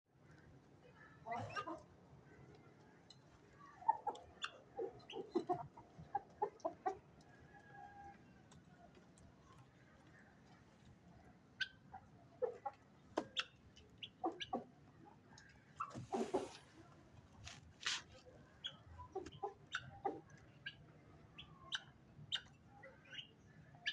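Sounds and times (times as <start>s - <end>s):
chickens clucking: 0.4s - 23.9s.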